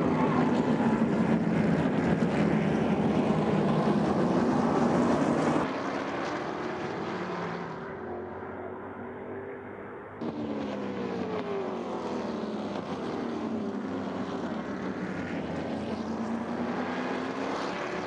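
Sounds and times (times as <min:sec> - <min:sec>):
race car engines running hard: 0:00.0 - 0:18.0.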